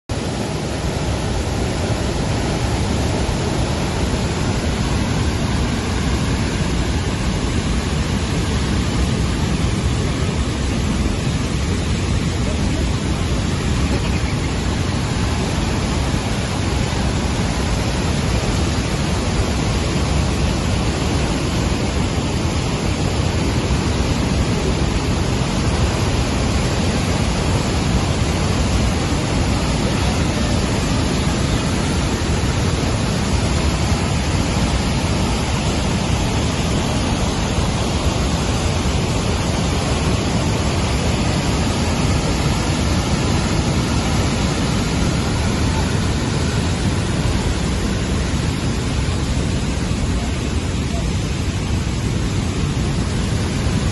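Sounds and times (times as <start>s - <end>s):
waterfall rushing: 0.1s - 53.9s.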